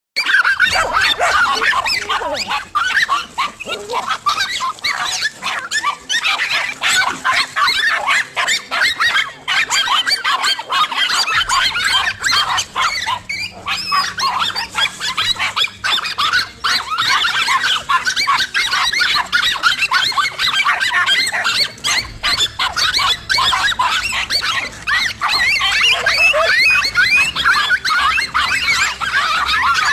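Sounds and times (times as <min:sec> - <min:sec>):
dogs barking and yapping: 0:00.2 - 0:29.9.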